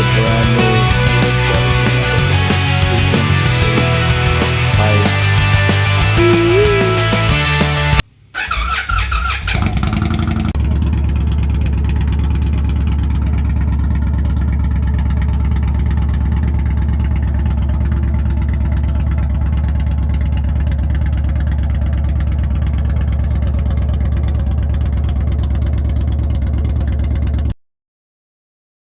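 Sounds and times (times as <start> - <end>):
motorcycle engine idling: 0.0 - 27.5.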